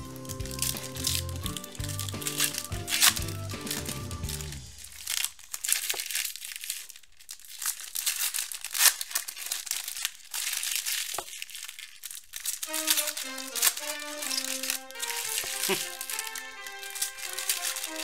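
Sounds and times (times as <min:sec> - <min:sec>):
foil wrappers crinkling and tearing: 0:00.0 - 0:18.0.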